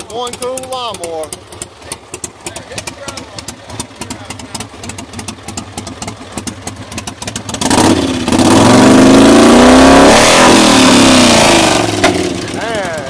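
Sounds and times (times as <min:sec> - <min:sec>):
lawnmower engine idling and revving: 0:00.0 - 0:13.0.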